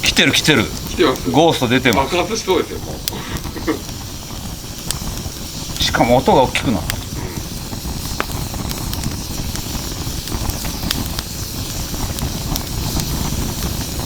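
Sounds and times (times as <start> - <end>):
fire roaring: 0.0 - 14.0
logs crackling and popping: 0.0 - 14.0.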